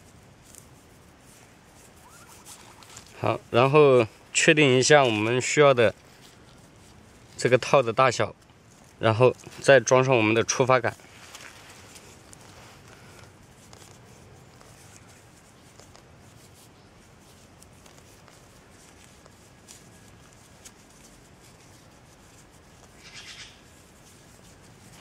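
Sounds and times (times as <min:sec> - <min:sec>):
rustling of dry leaves: 0:00.0 - 0:25.0.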